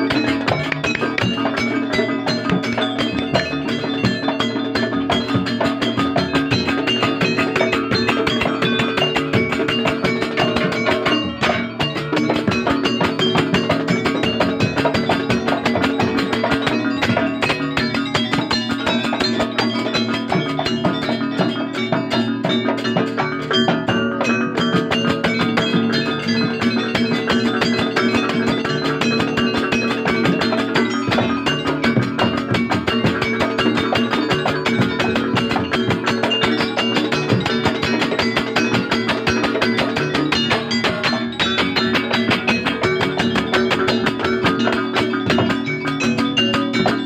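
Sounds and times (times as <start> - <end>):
fast drum strokes: 0.0 - 47.0
live band playing instrumental: 0.0 - 47.0
pitched struck notes: 0.0 - 47.0.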